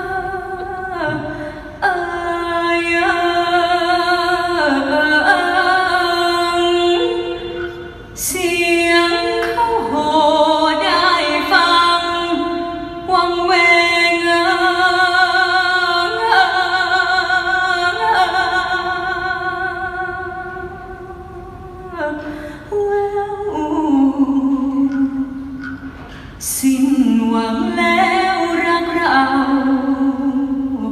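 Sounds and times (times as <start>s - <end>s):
woman singing into microphone: 0.0s - 30.9s.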